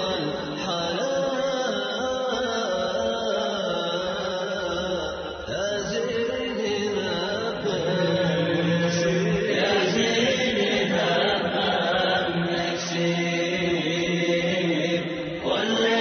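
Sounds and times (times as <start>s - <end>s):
chanted vocal music: 0.0s - 16.0s.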